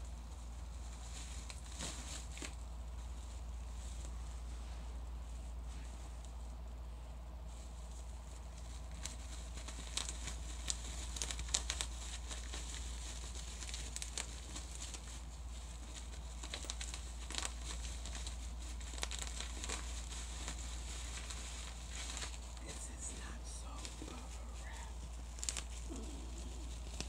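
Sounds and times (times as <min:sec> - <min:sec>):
bubble wrap popping: 0:00.0 - 0:04.4, 0:07.6 - 0:27.0
plastic crinkling: 0:00.0 - 0:06.6, 0:07.4 - 0:27.0.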